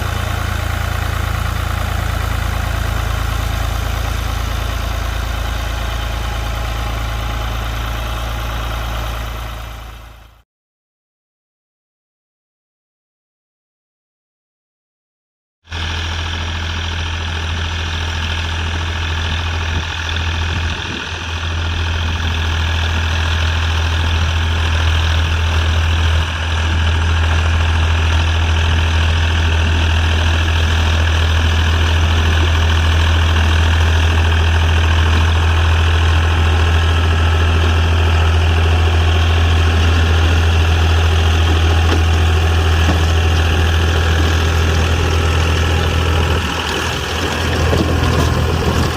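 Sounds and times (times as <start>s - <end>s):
tractor engine droning: 0.0s - 10.4s, 15.7s - 48.9s.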